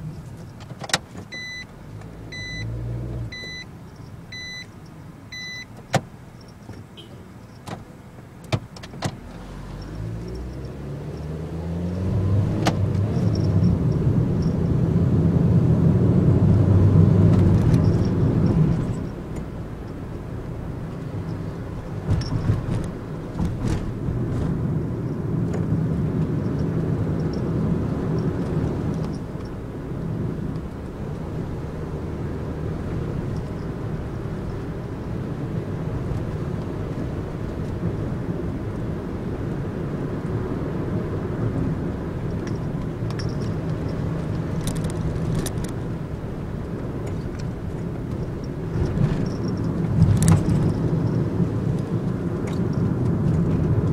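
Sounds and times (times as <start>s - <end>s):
engine and road rumble: 0.0s - 53.9s.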